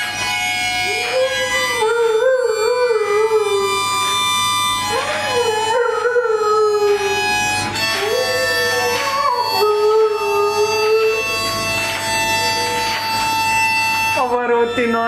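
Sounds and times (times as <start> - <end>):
harmonica chords: 0.0 - 15.0
dog howling: 0.8 - 13.9.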